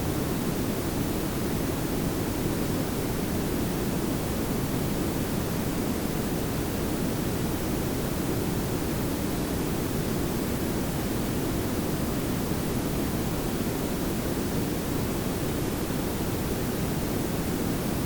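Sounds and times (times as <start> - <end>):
pink and brown noise: 0.0 - 18.0.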